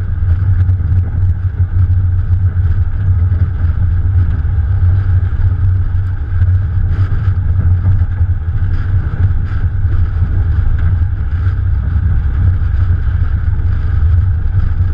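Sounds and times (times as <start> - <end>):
car engine running: 0.0 - 14.9
wind buffeting: 0.0 - 14.9.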